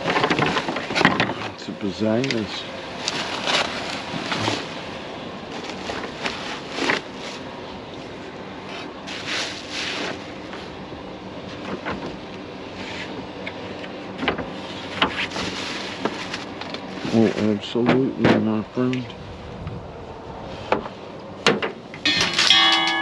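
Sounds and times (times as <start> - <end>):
rustles and knocks of rummaging: 0.0 - 10.8, 11.4 - 18.5, 20.7 - 23.0
steady low hum: 0.0 - 23.0.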